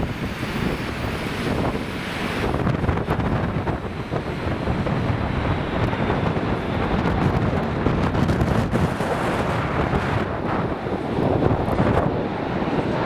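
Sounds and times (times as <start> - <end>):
jet engines: 0.0 - 13.0
wind buffeting microphone: 0.0 - 13.0.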